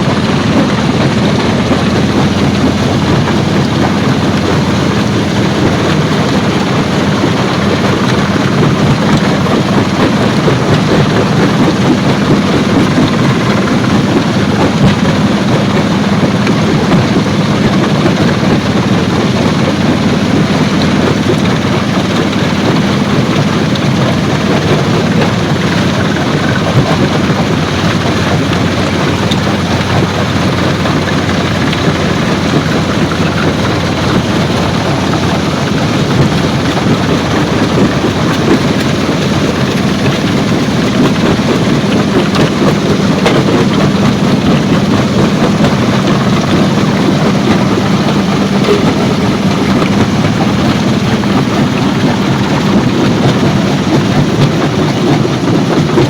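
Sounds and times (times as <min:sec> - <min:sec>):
stone-crushing machinery running: 0:00.0 - 0:56.0.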